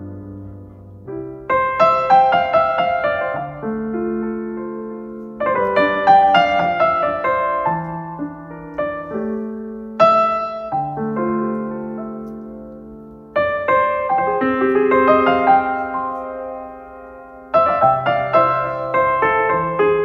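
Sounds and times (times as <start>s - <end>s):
gentle solo piano music: 0.0s - 20.0s.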